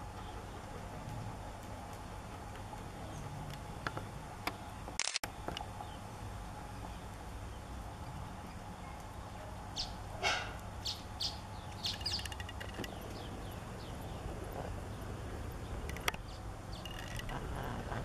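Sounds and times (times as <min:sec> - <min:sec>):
birds chirping: 0:00.0 - 0:18.0
low background rumble: 0:00.0 - 0:18.0.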